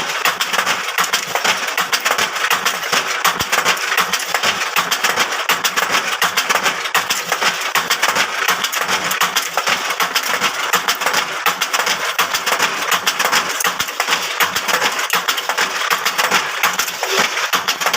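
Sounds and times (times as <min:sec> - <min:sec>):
machine clattering: 0:00.0 - 0:17.9.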